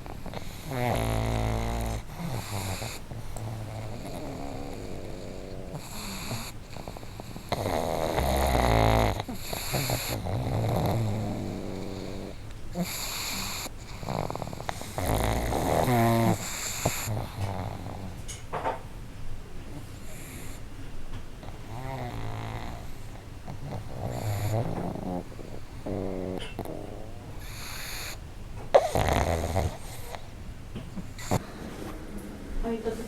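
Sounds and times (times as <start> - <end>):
dogs snoring loudly: 0.0 - 18.6, 19.7 - 20.7, 21.4 - 32.2.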